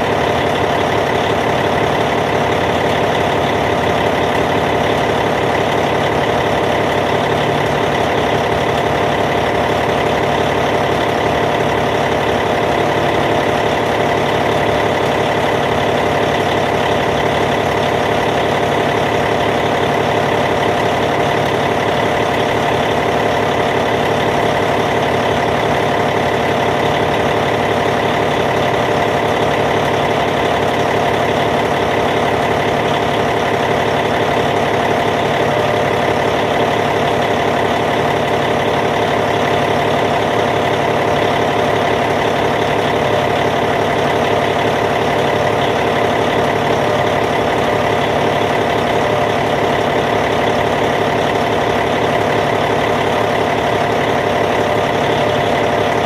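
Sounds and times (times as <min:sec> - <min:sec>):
bulldozer diesel engine idling: 0:00.0 - 0:56.0.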